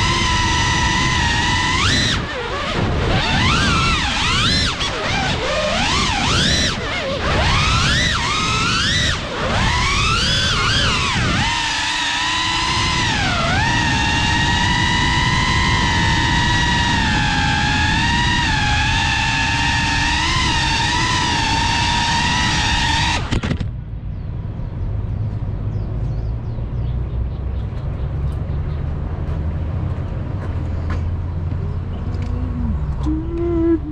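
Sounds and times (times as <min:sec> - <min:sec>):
drone propellers whining: 0:00.0 - 0:26.1, 0:31.4 - 0:33.9.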